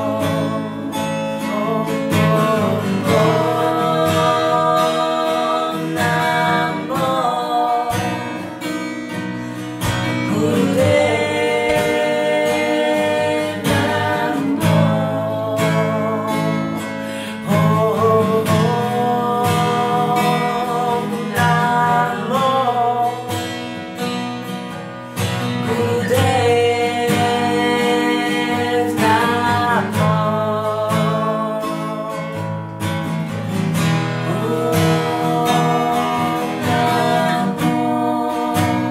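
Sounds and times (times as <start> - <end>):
acoustic guitar: 0.0 - 38.9
women singing a chant: 1.5 - 8.5, 9.9 - 23.4, 25.6 - 32.1, 34.3 - 38.9.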